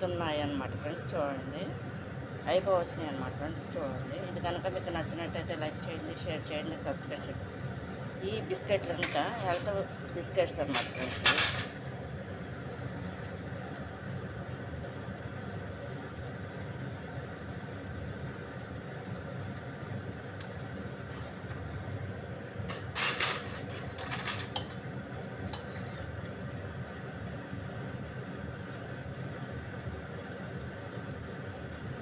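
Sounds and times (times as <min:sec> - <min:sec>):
deep-frying in oil: 0:00.2 - 0:32.0.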